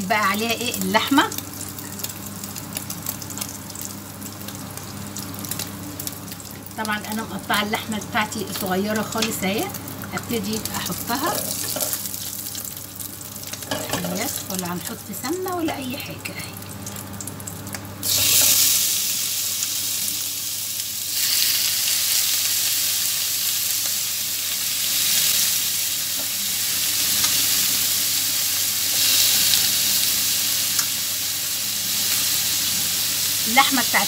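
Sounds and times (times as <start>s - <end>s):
meat sizzling in a frying pan: 0.0s - 34.0s.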